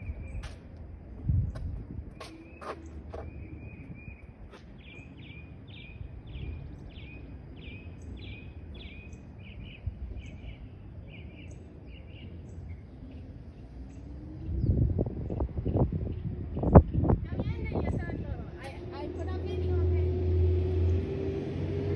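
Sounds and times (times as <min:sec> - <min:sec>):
songbird singing: 0:00.0 - 0:00.7, 0:01.4 - 0:21.1
low outdoor rumble: 0:00.0 - 0:21.9.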